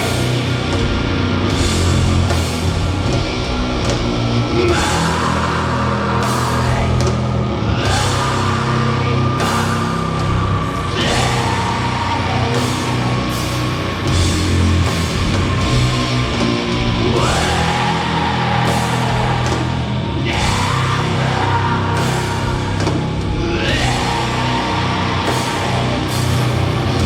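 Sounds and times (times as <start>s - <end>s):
distorted guitars and bass: 0.0s - 27.0s
drums: 0.0s - 27.0s.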